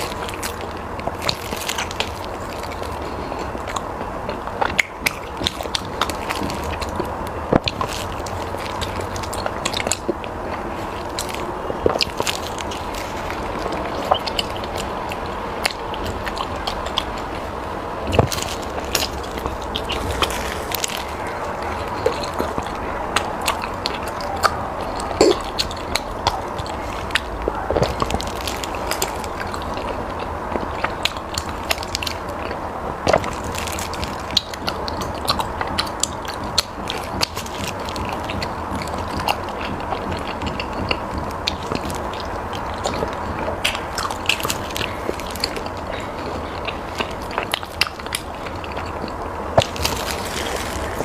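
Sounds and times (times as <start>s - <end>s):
person chewing: 0.0s - 51.0s
steady background hiss: 0.0s - 51.0s
wet mouth clicks: 1.0s - 17.4s, 18.1s - 51.0s.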